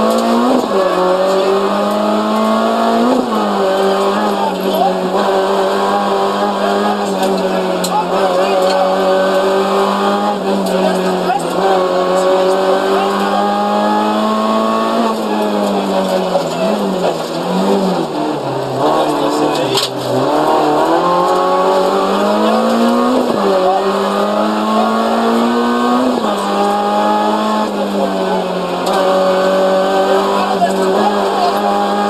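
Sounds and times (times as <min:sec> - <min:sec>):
rally car engine shifting gears: 0:00.0 - 0:32.0.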